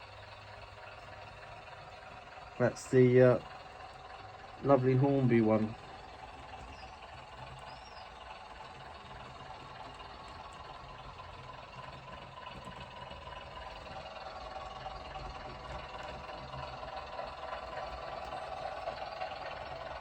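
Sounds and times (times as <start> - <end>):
diesel engine idle from small speaker: 0.0 - 20.0.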